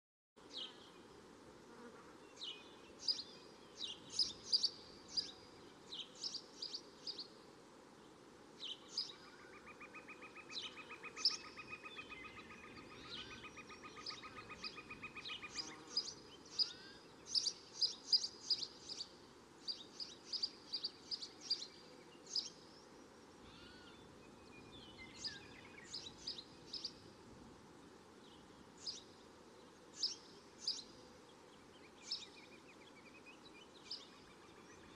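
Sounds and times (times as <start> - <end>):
small birds chirping: 2.2 - 7.4, 8.1 - 27.2, 28.1 - 34.9.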